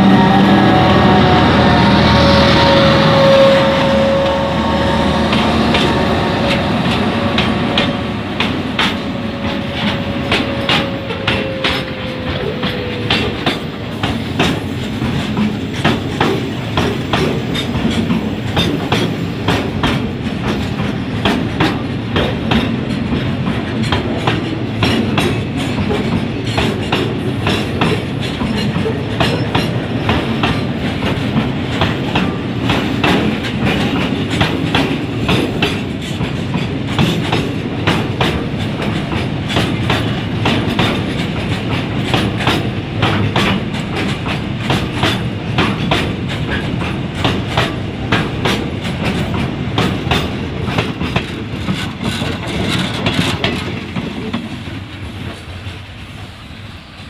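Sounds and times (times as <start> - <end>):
train wheels clacking on rail joints: 0.1 - 56.4.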